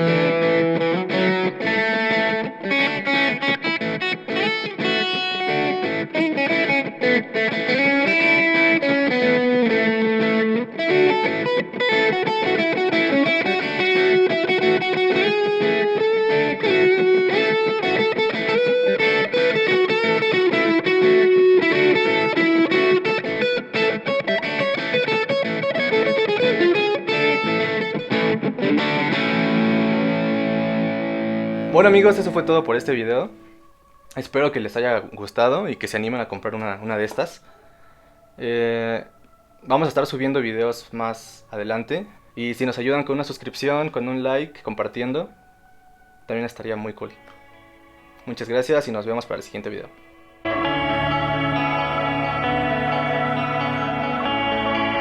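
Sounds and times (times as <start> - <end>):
distorted electric guitar lead: 0.0 - 55.0.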